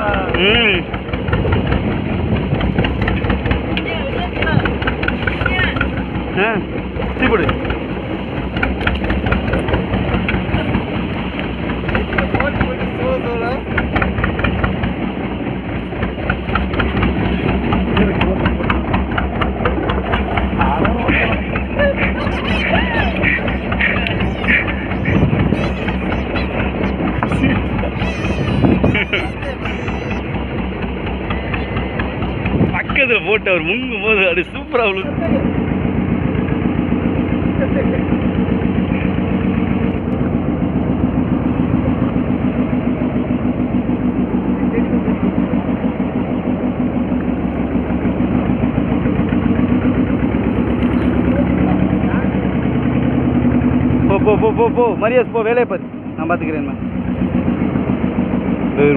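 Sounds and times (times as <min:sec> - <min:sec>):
boat engine idling: 0:00.0 - 0:58.9.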